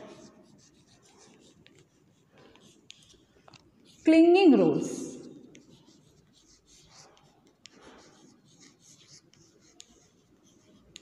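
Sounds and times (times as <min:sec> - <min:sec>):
chalk tapping on blackboard: 0:00.0 - 0:04.0, 0:05.4 - 0:11.0
chalk scratching on blackboard: 0:00.0 - 0:11.0.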